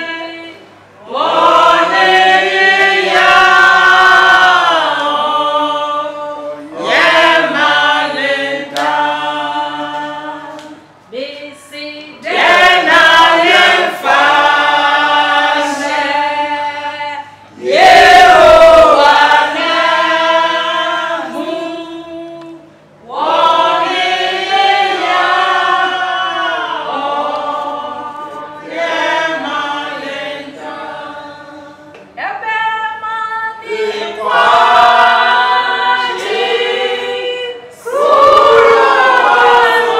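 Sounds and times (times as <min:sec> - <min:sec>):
group singing without instruments: 0:00.0 - 0:11.1, 0:12.2 - 0:32.2, 0:32.9 - 0:39.9.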